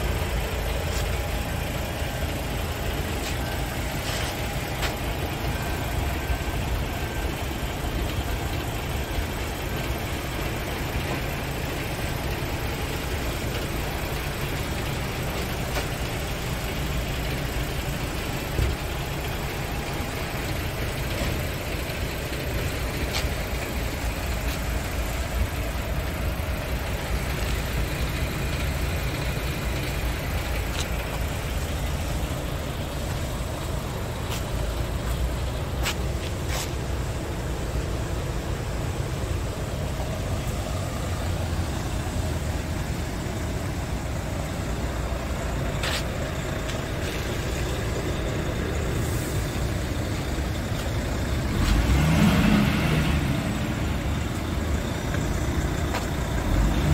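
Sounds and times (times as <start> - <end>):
diesel truck engine idling: 0.0 - 56.9.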